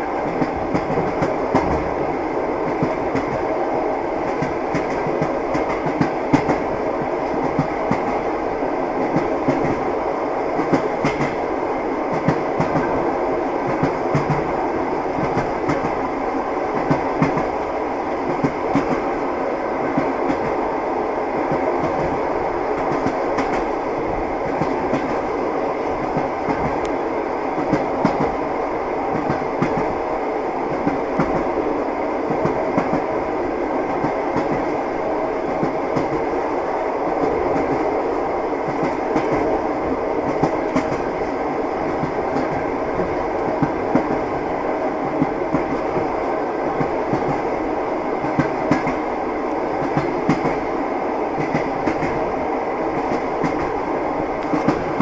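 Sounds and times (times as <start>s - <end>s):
train wheels clattering on rails: 0.0s - 31.6s, 32.2s - 55.0s.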